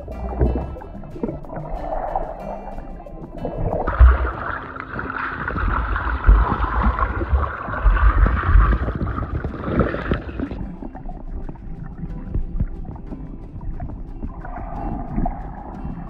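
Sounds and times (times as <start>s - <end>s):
low thumps: 0.0s - 16.0s
water rushing and gurgling: 0.0s - 16.0s.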